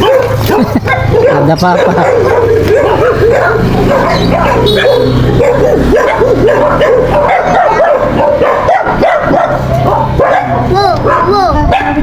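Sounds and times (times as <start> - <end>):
dogs yipping and whining: 0.0 - 12.0.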